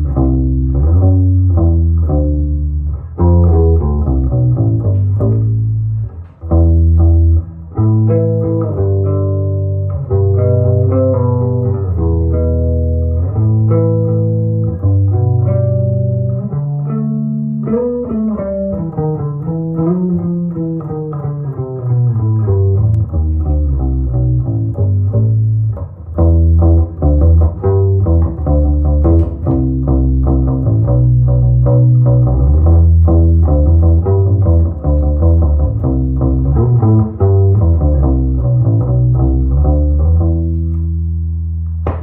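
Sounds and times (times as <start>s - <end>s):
electric bass plucked notes: 0.0s - 42.0s.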